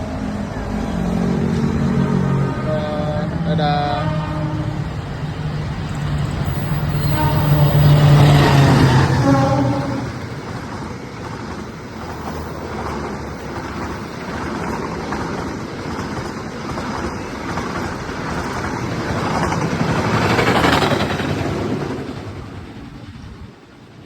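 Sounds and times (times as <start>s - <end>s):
passenger train passing: 0.0s - 24.0s.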